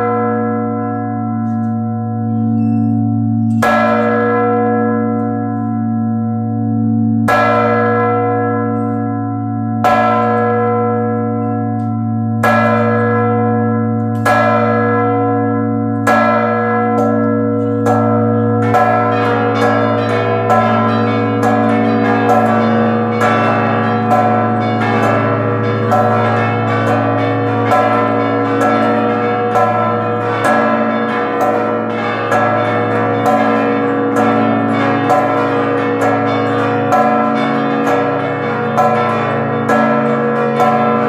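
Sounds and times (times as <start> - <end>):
church bells pealing: 0.0 - 41.0
large bell humming: 0.0 - 41.0.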